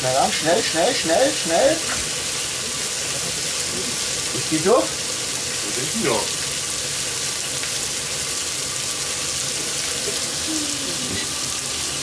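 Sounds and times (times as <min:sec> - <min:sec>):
sausages sizzling on a grill: 0:00.0 - 0:12.0.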